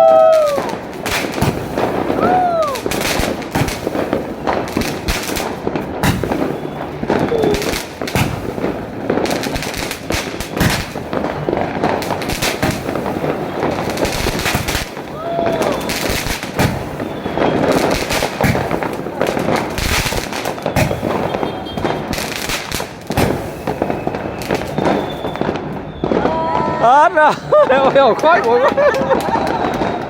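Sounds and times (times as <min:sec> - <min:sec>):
fireworks bangs: 0:00.0 - 0:30.0
fireworks crackling: 0:00.0 - 0:30.0
fireworks whistles: 0:00.0 - 0:30.0.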